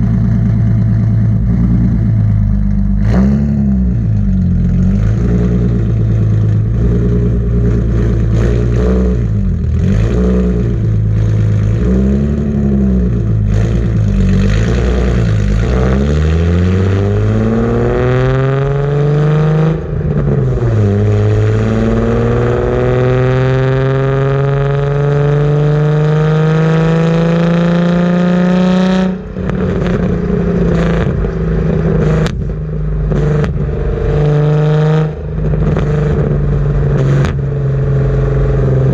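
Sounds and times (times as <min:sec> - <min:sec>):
car engine revving and accelerating: 0:00.0 - 0:38.9.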